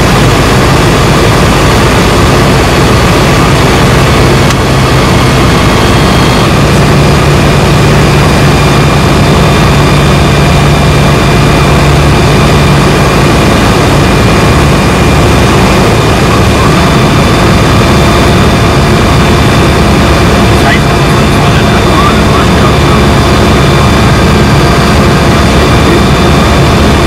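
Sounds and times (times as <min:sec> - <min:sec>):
light aircraft engine droning: 0:00.0 - 0:27.0.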